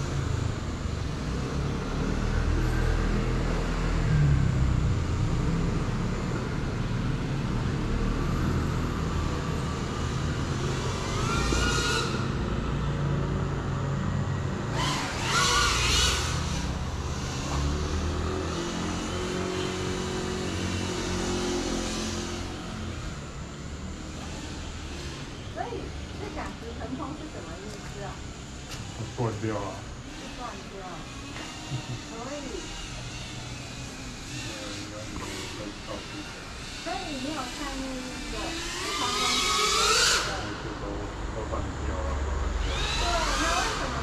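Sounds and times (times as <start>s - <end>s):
quadcopter motors whining: 0.0s - 44.0s.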